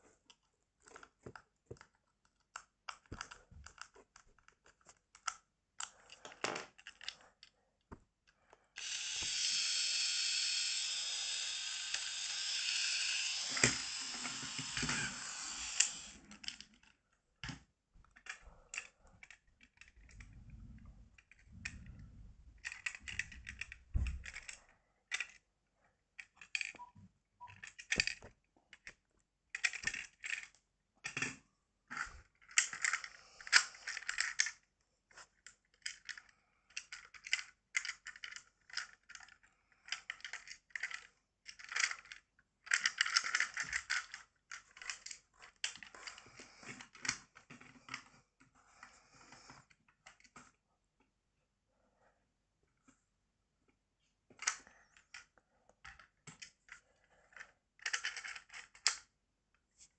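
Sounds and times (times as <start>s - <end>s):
plastic toy trains clicking: 0.3s - 7.5s, 8.2s - 20.3s, 22.6s - 25.4s, 26.2s - 48.1s, 54.4s - 59.1s.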